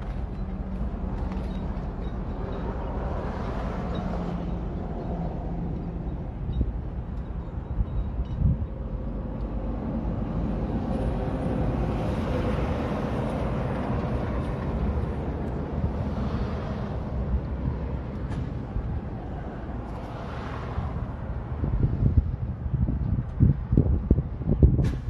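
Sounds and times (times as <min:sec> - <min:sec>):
heavy machinery engines rumbling: 0:00.0 - 0:25.0.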